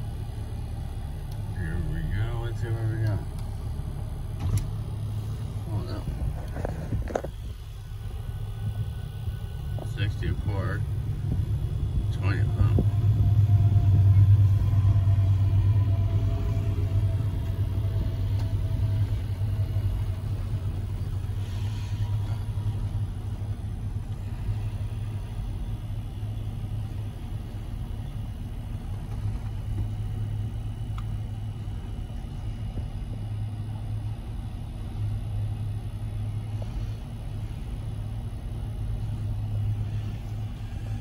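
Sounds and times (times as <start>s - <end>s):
freight train rumbling: 0.0s - 41.0s.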